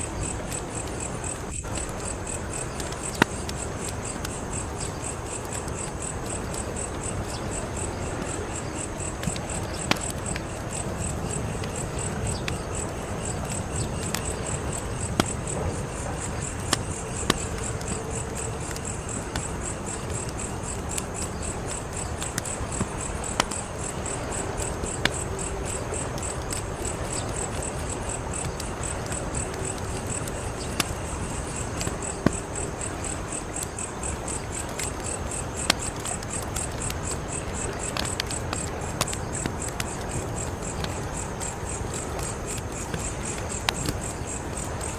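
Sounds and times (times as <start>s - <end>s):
crickets chirping: 0.0s - 44.9s
wood fire crackling and popping: 0.0s - 44.9s.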